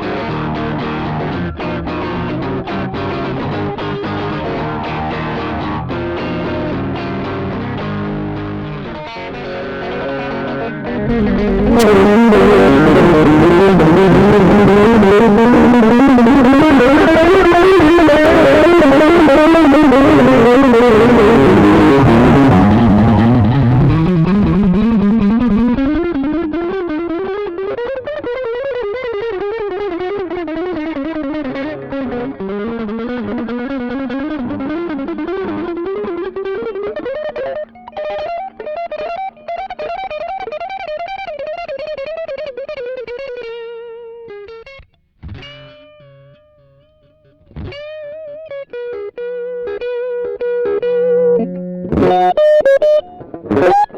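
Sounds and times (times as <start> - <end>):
distorted electric guitar lead: 0.0 - 53.9.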